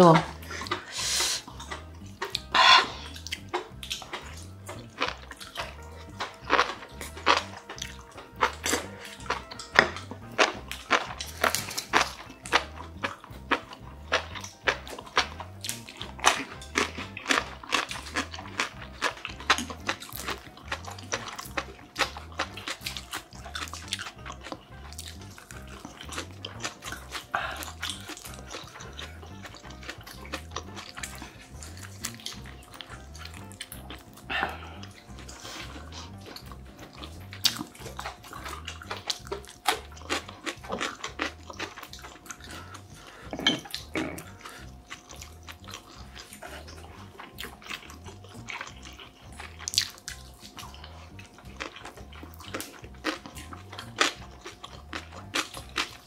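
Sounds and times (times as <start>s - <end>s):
chewing and slurping noodles: 0.0s - 56.0s
soft background music with beat: 0.0s - 56.0s.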